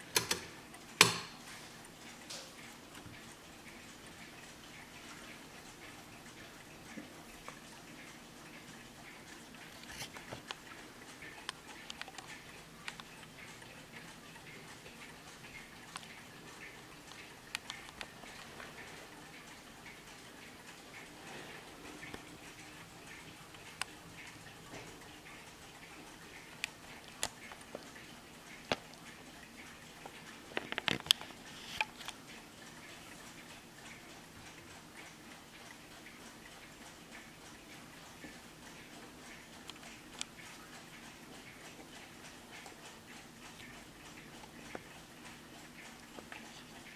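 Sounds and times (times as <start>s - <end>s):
clock ticking faintly: 0.0s - 46.9s.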